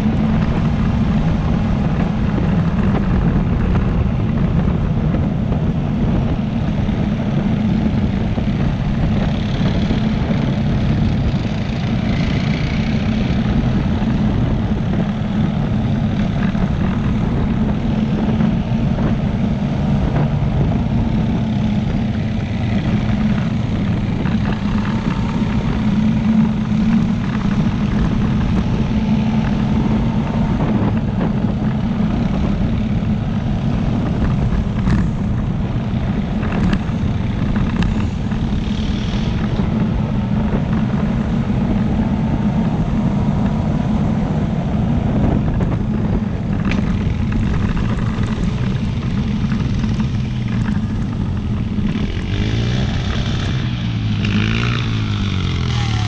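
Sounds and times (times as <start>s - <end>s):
atv engine droning: 0.0s - 56.0s.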